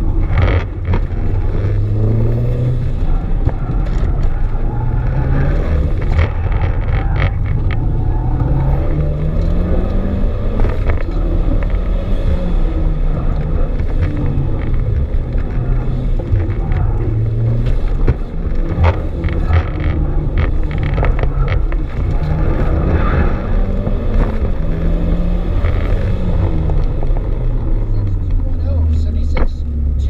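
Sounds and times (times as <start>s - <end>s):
sharp clicks and knocks: 0.0s - 29.8s
car engine revving hard: 0.0s - 30.0s.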